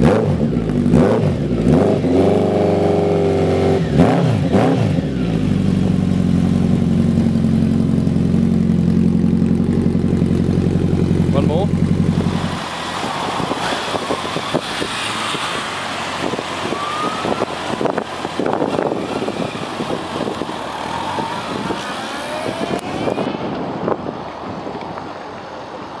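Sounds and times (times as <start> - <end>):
motorcycle accelerating: 0.0 - 25.0
street traffic noise: 0.0 - 26.0.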